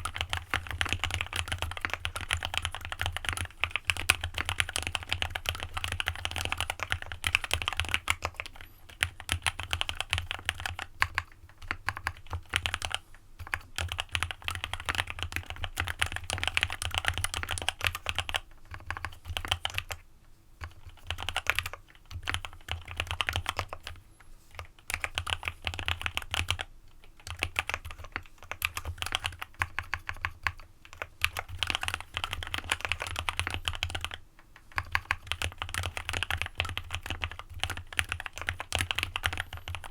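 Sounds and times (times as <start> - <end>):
mechanical keyboard typing: 0.0 - 20.0, 20.6 - 24.0, 24.6 - 39.9.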